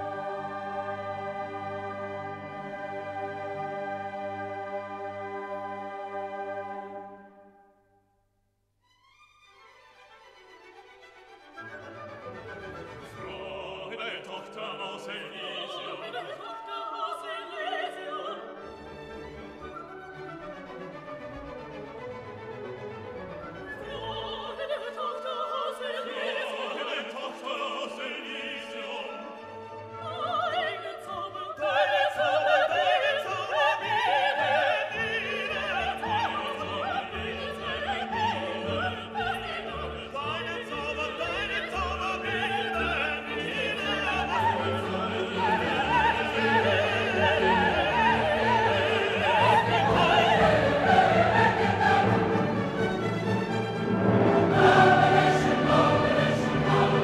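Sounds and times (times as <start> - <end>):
orchestra with operatic singing: 0.0 - 7.6, 9.8 - 57.0.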